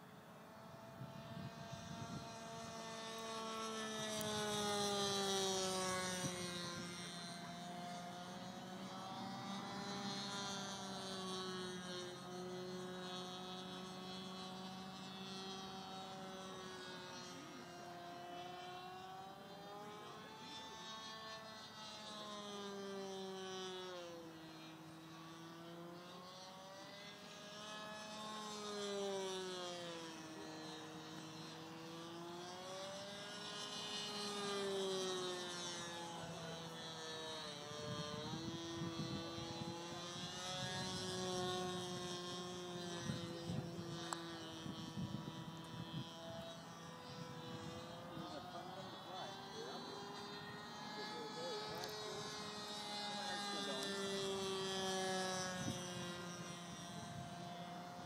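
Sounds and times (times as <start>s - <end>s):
model airplane motor and propeller: 0.0s - 58.0s.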